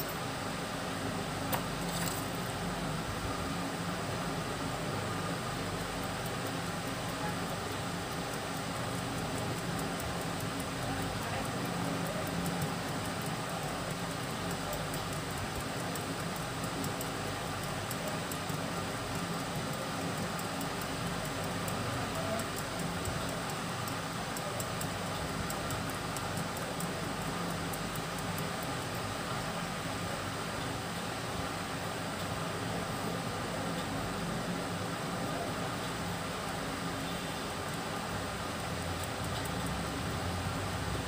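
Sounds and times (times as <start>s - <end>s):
background hum and hiss: 0.0s - 41.0s.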